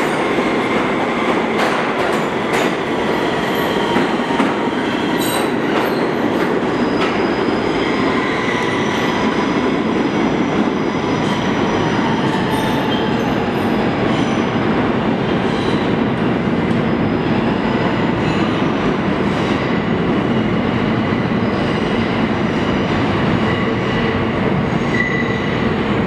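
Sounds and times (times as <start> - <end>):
subway train wheels rumbling on rails: 0.0 - 26.0.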